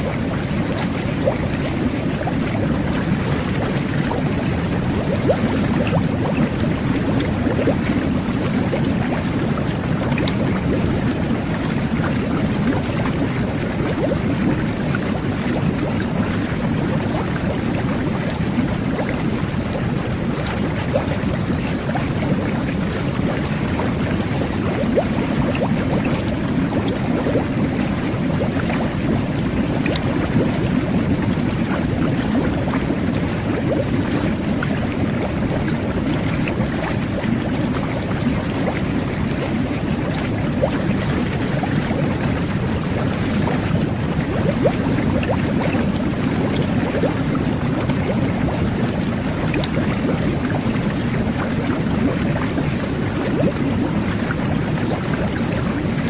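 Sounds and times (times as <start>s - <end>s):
water jets churning and bubbling: 0.0s - 56.0s.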